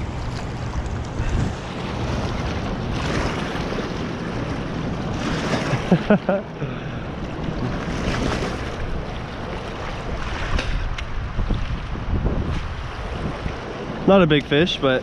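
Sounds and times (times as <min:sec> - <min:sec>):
wind buffeting microphone: 0:00.0 - 0:06.0, 0:07.0 - 0:14.4
running water: 0:00.0 - 0:15.0.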